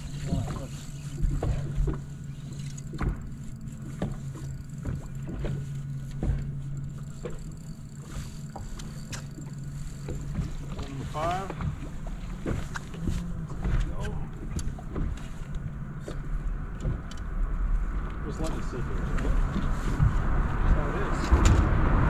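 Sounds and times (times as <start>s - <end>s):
electric trolling motor humming: 0.0s - 22.0s
water slapping against hull: 0.0s - 22.0s.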